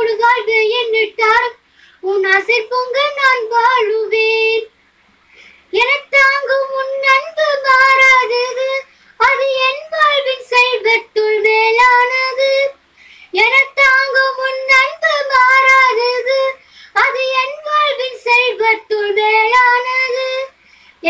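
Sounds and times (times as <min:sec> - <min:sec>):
girl singing solo: 0:00.0 - 0:04.7, 0:05.7 - 0:21.0.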